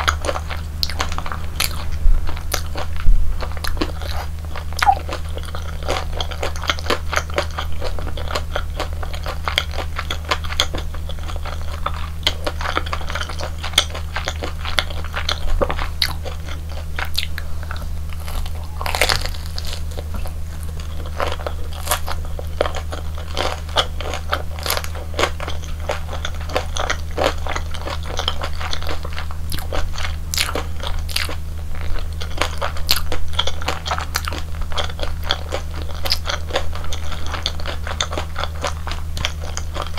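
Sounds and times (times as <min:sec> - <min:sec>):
crunching and chewing fried batter: 0:00.0 - 0:39.9
steady low hum: 0:00.0 - 0:39.9.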